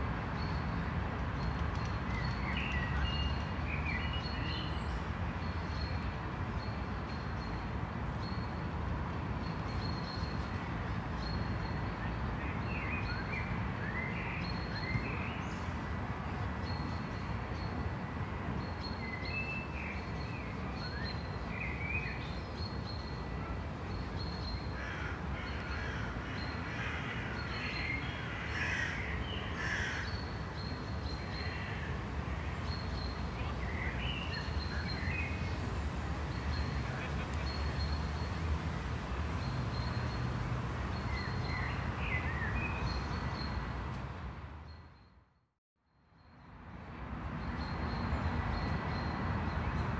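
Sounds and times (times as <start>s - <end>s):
low city rumble: 0.0s - 49.9s.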